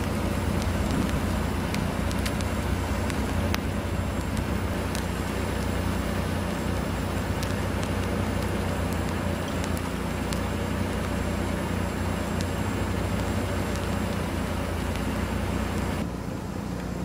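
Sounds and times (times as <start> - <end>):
freezing rain ticks and crackles: 0.0 - 17.0.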